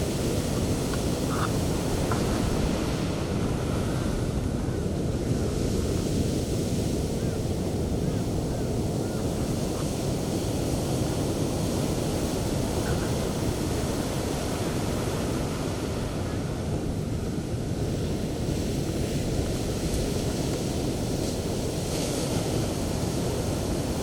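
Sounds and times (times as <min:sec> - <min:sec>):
sea waves breaking on beach: 0:00.0 - 0:24.0
wind on microphone: 0:00.0 - 0:24.0.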